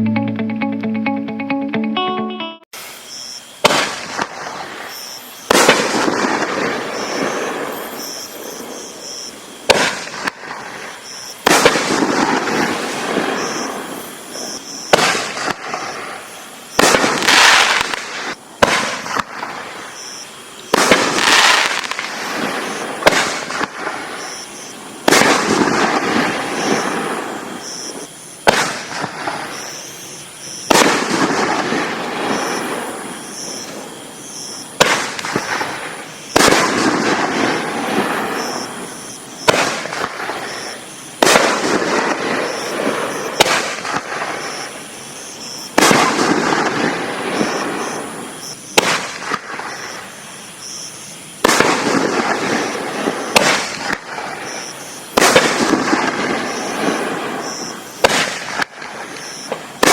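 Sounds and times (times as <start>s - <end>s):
firework shells bursting: 2.8s - 50.0s, 51.4s - 59.9s.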